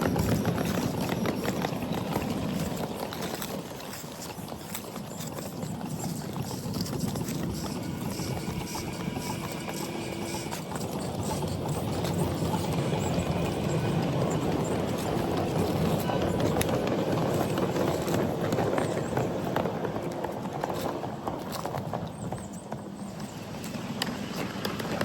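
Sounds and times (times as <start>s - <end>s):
miniature train clattering on track: 0.0s - 25.0s.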